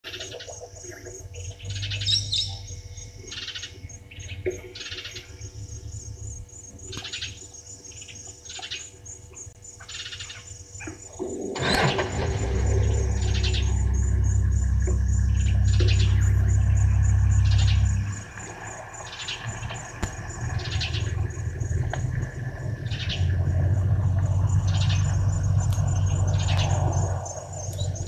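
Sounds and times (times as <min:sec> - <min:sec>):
steady low rumble: 0:01.2 - 0:07.8, 0:11.1 - 0:28.0.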